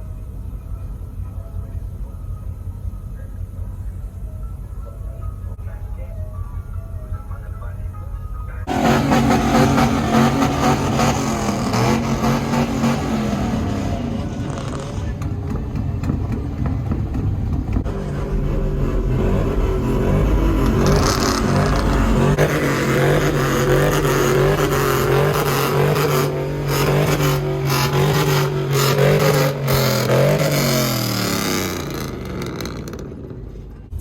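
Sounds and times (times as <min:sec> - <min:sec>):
truck engine and exhaust: 0:00.0 - 0:34.0.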